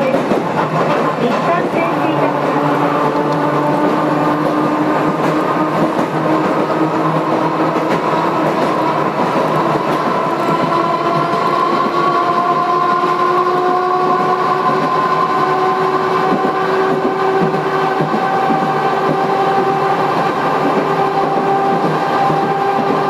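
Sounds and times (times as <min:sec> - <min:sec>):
tram motors whining: 0:00.0 - 0:23.0
wheels rolling on rail: 0:00.0 - 0:23.0.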